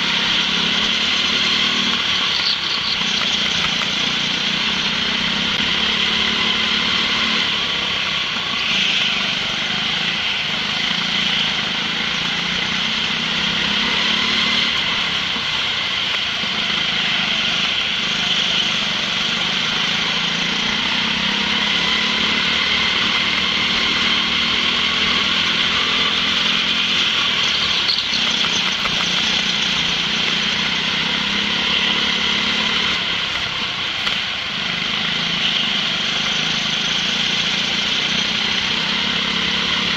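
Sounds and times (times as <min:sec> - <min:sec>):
go-kart engine running hard: 0:00.0 - 0:39.9
other kart engines nearby: 0:00.0 - 0:39.9.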